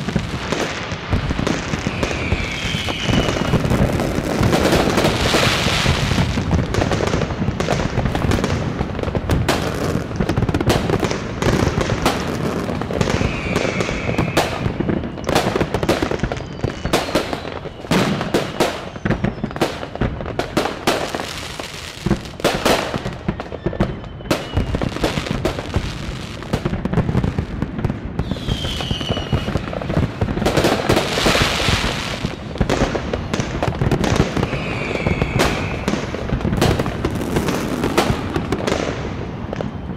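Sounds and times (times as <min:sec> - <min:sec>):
firework whistles: 0:00.0 - 0:08.3, 0:10.6 - 0:26.4, 0:28.2 - 0:39.9
fireworks bangs crackling: 0:00.0 - 0:39.9.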